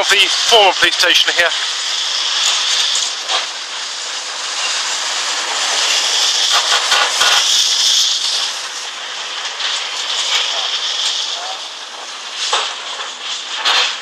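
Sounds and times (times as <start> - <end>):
machinery hissing: 0.0 - 14.0.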